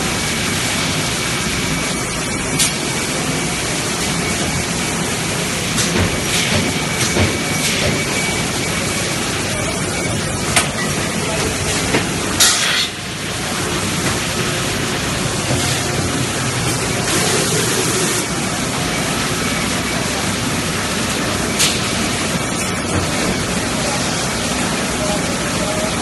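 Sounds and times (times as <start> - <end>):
machinery hiss and hum: 0.0 - 26.0.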